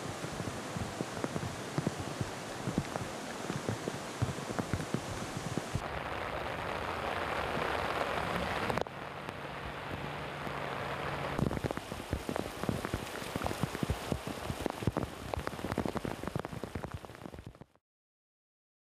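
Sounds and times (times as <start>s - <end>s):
river rushing: 0.0s - 17.3s
heavy rain: 0.0s - 17.8s
rain pattering on tiled roofs: 0.0s - 17.8s.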